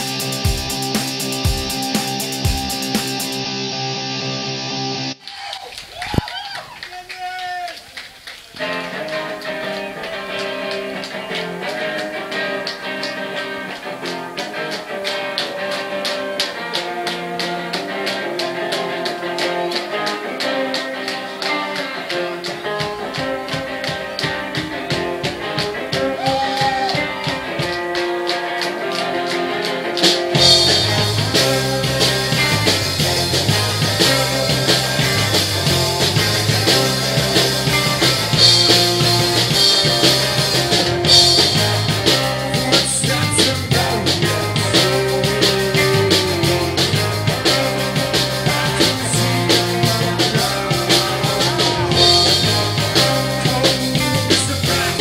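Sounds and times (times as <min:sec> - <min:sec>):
drum beat: 0:00.0 - 0:03.4, 0:14.1 - 0:55.0
bass guitar: 0:00.0 - 0:05.2, 0:08.6 - 0:55.0
electric guitars: 0:00.0 - 0:05.2, 0:07.9 - 0:55.0.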